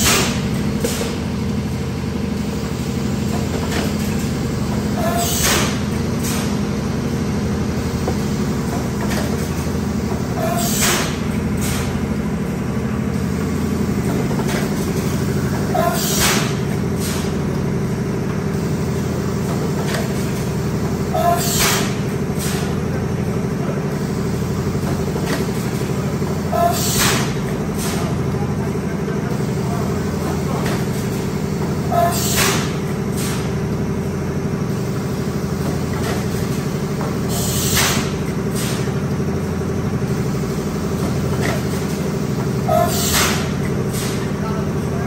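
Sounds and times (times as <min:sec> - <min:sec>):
blow molding machine humming: 0:00.0 - 0:45.0.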